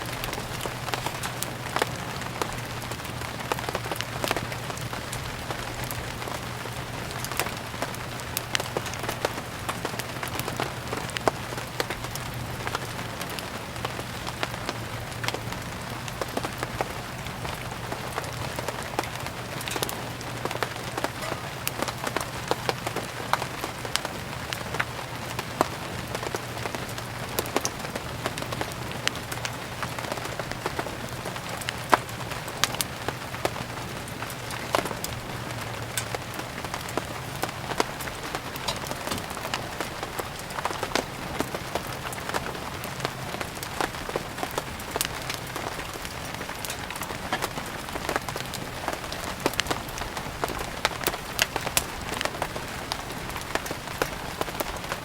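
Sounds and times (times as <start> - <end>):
steady rain: 0.0 - 55.0
wood fire crackling and popping: 0.0 - 55.0.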